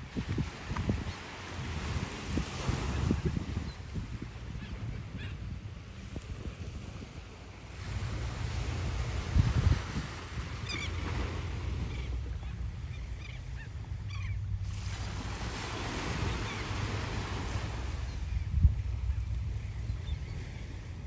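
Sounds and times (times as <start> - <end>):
small waves washing ashore: 0.0 - 21.0
wind buffeting microphone: 0.0 - 21.0.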